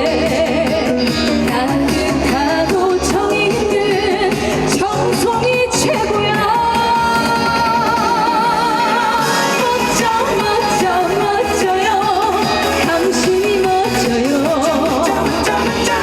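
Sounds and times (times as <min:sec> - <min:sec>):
music accompaniment: 0:00.0 - 0:16.0
person singing: 0:00.0 - 0:16.0.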